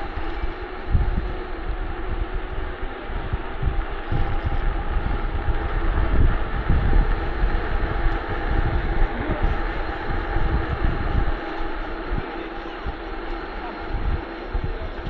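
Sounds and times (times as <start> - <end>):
bike tyre noise on road: 0.0 - 15.0
faint steady hum: 0.0 - 15.0
wind buffeting microphone: 0.0 - 15.0.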